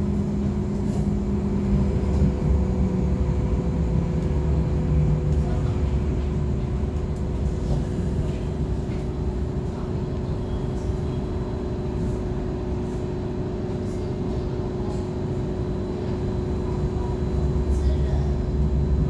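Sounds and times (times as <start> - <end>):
light rail train rumbling: 0.0 - 19.0.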